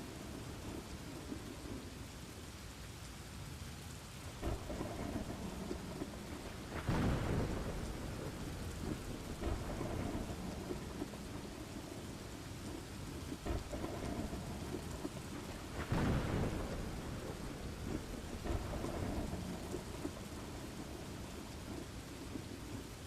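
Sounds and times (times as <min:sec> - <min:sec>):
thunder rumbling: 0:00.0 - 0:02.0, 0:04.3 - 0:23.0
rain falling: 0:00.0 - 0:23.0
thunderclap: 0:04.4 - 0:23.0.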